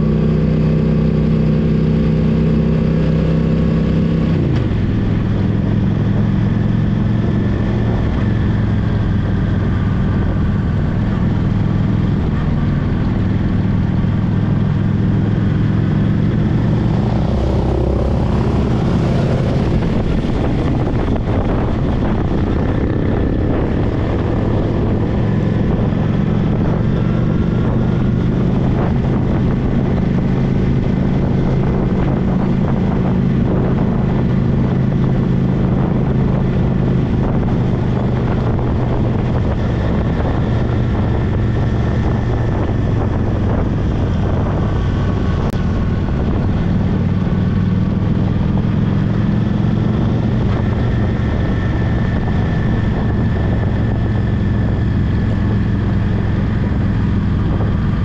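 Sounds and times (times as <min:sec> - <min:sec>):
motorcycle engine running: 0:00.0 - 0:58.0
tyre and wind noise: 0:00.0 - 0:58.0.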